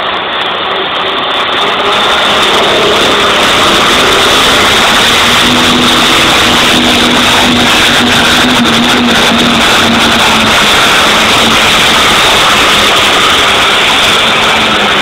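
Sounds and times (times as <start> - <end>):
tractor engine at full power: 0.0 - 15.0.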